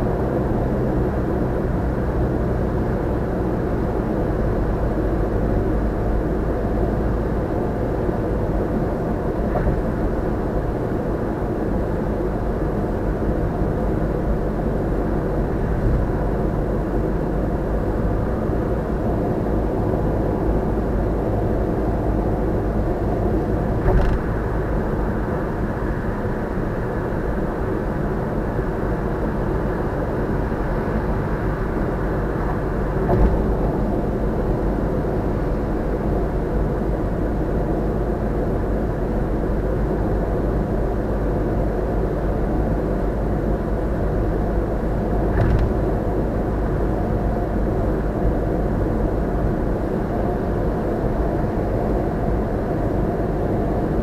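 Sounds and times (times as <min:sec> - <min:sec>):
road and tyre noise in car: 0:00.0 - 0:54.0.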